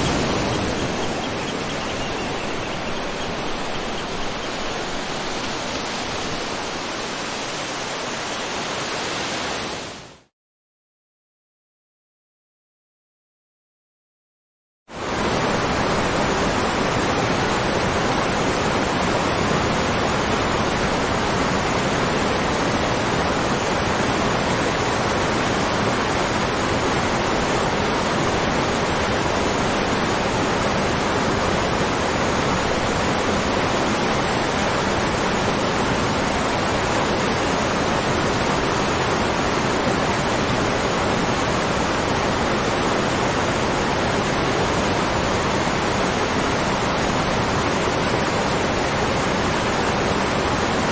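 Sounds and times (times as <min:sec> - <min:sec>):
waterfall rushing: 0:00.0 - 0:10.1, 0:15.0 - 0:50.9.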